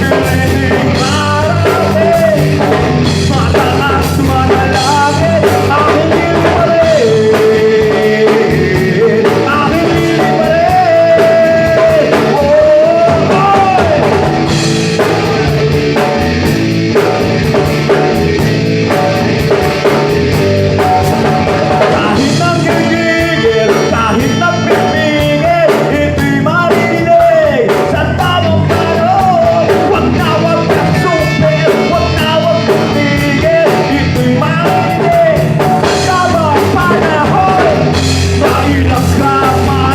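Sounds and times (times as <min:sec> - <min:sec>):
bass guitar: 0:00.0 - 0:39.9
drum kit: 0:00.0 - 0:39.9
electric guitar: 0:00.0 - 0:39.9
singer's melody: 0:00.0 - 0:39.9.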